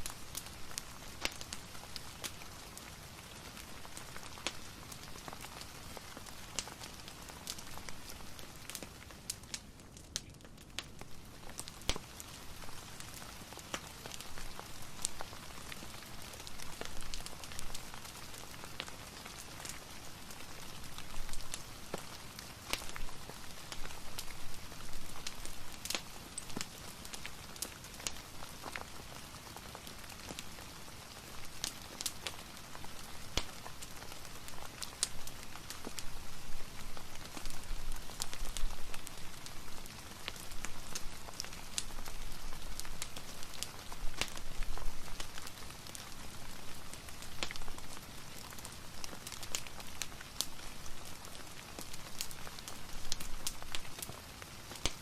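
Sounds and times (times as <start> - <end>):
fireplace fire crackling: 0.0 - 55.0
steady rain: 0.0 - 55.0.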